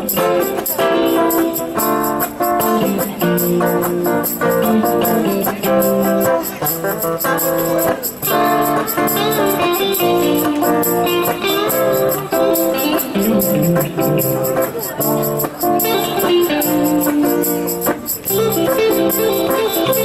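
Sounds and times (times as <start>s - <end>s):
plucked guitar notes: 0.0s - 20.0s
strummed guitar accompaniment: 0.0s - 20.0s.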